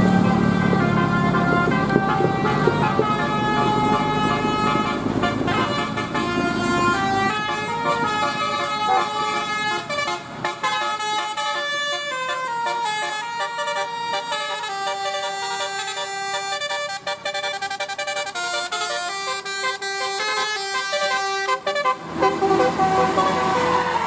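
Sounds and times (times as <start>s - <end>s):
engine rumble: 0.0s - 24.0s
multi-tone bus horn melody: 0.0s - 24.0s.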